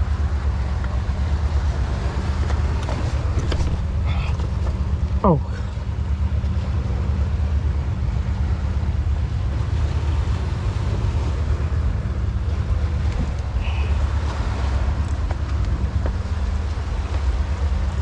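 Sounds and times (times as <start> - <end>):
faint steady drone: 0.0 - 18.0.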